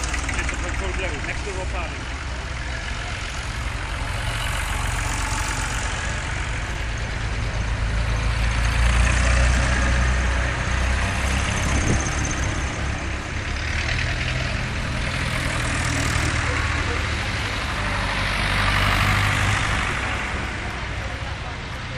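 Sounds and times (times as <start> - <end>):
tractor engines chugging: 0.0 - 21.9.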